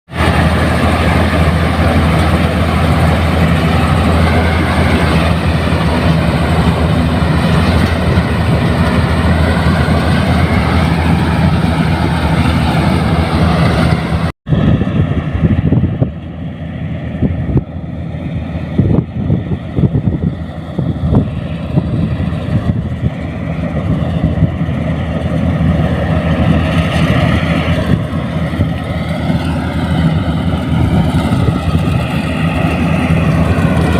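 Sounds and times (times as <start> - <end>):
harvester engine humming: 0.1 - 33.9.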